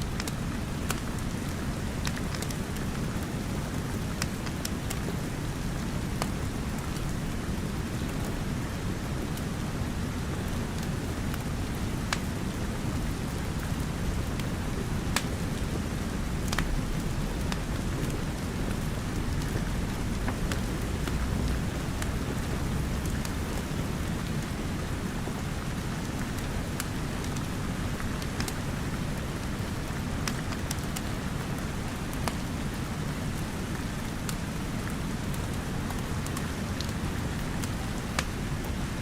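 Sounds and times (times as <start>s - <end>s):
steady rain: 0.0s - 39.0s
wood fire crackling: 0.1s - 39.0s.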